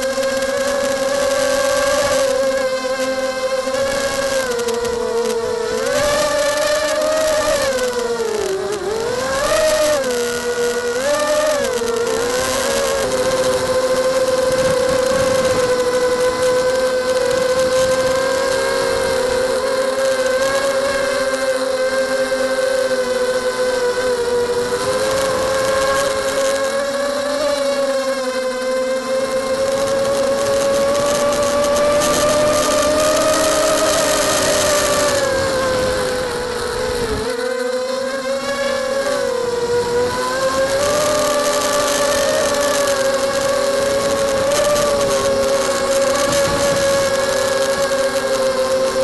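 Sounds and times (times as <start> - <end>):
drone motors whining: 0.0 - 49.0.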